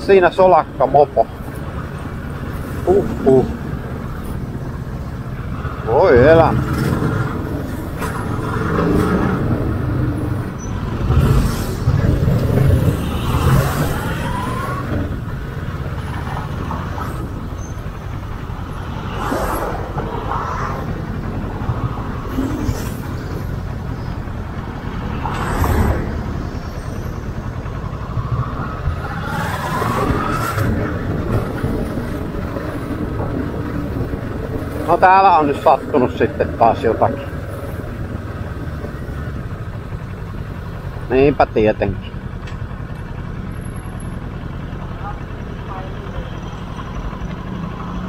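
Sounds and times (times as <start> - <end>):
motorcycle engine rumbling: 0.0 - 48.0.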